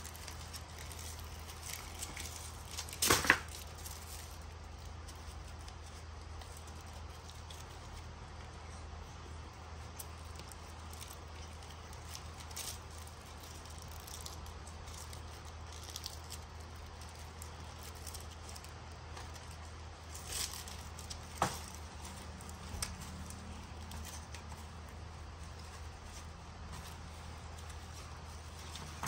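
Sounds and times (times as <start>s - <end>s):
paper and cellophane rustling: 0.0s - 29.0s
steady low hum: 0.0s - 29.0s.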